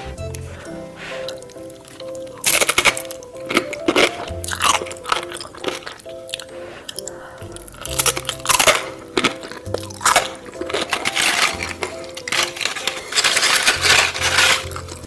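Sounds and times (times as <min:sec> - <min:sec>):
background music: 0:00.0 - 0:15.0
crunchy bites and chewing: 0:02.2 - 0:15.0.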